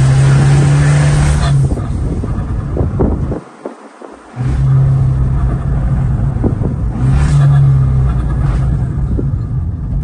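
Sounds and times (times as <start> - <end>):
car engine and exhaust droning: 0.0 - 10.0.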